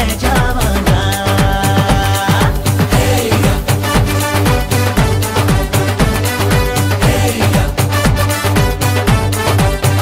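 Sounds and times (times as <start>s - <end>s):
loud dance music: 0.0s - 10.0s.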